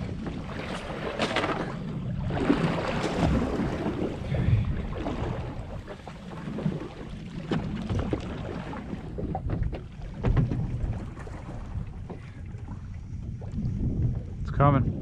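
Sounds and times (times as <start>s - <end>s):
water lapping against hull: 0.0s - 15.0s
wind buffeting microphone: 0.0s - 15.0s.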